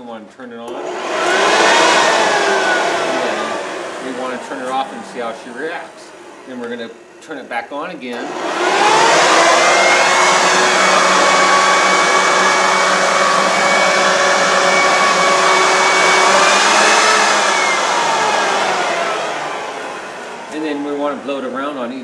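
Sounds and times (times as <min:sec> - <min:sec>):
leaf blower whining: 0:00.7 - 0:07.3, 0:08.0 - 0:22.0.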